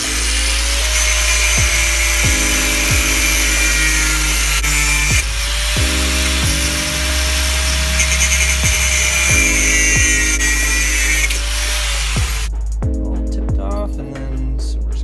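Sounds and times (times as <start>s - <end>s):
power tool grinding steel: 0.0s - 12.5s
background music with beat: 0.0s - 15.0s.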